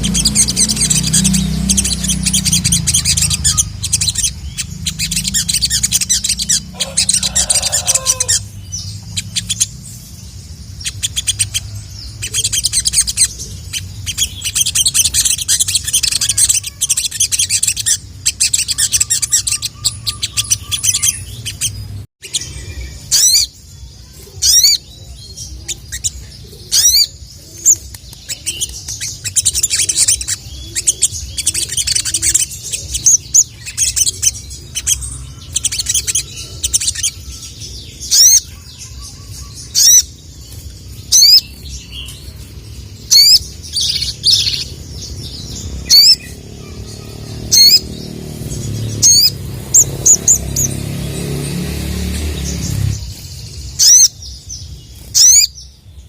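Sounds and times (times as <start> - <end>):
bird chirping trills: 0.0 - 56.0.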